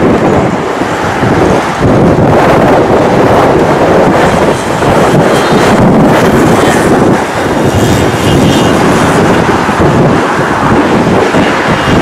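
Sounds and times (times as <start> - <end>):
jet engines at high power: 0.0 - 12.0
wind buffeting microphone: 0.0 - 12.0.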